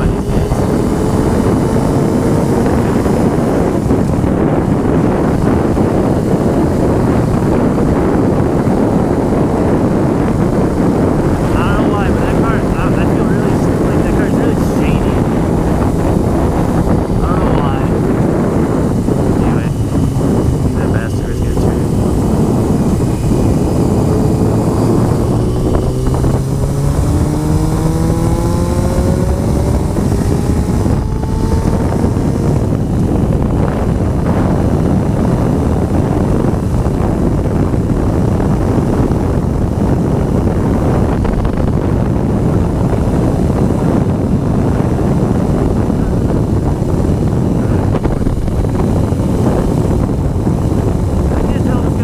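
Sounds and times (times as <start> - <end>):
wind buffeting microphone: 0.0 - 52.0
motorcycle engine pulling away: 8.5 - 51.6.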